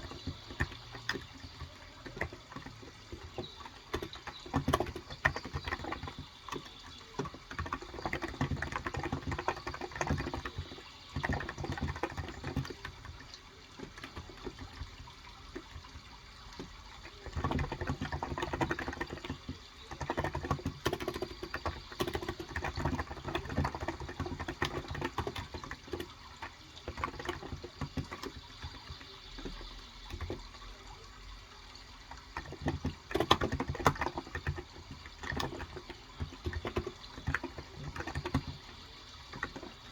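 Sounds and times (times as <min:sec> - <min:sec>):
keyboard typing: 0:00.0 - 0:16.0, 0:16.6 - 0:30.7, 0:32.0 - 0:39.9
running water: 0:00.0 - 0:39.9.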